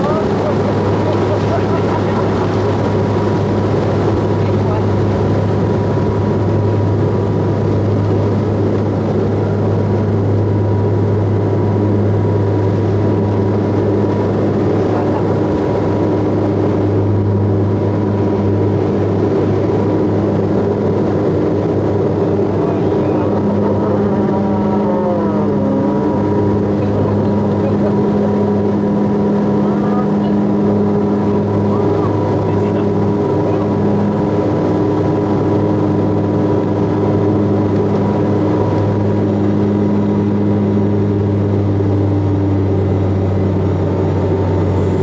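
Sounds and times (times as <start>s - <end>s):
aircraft engines droning in cabin: 0.0s - 45.0s.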